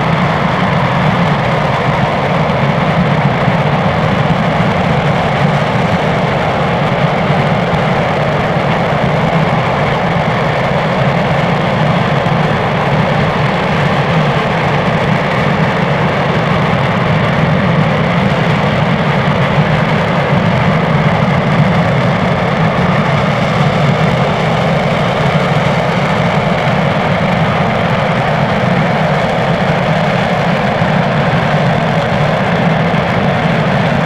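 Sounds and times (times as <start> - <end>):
rocket engine roaring: 0.0 - 34.0.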